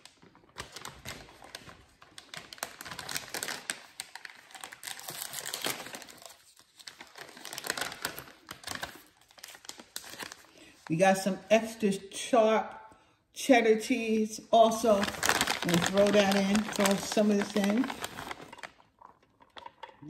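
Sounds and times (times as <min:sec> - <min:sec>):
plastic bag crinkling: 0:00.0 - 0:11.0, 0:14.6 - 0:20.0.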